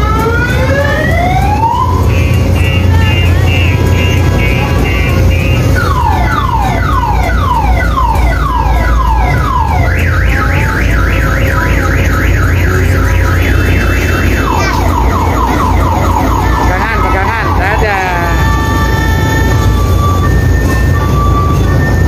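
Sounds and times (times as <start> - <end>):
electronic multi-tone siren: 0.0 - 22.0.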